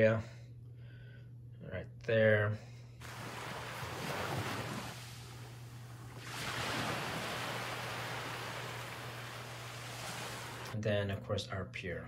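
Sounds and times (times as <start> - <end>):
low hum: 0.0 - 10.8.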